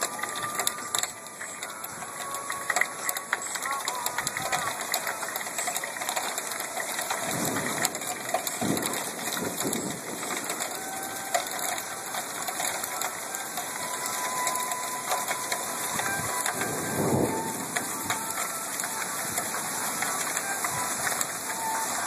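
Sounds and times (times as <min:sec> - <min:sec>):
hail falling: 0:00.0 - 0:22.0.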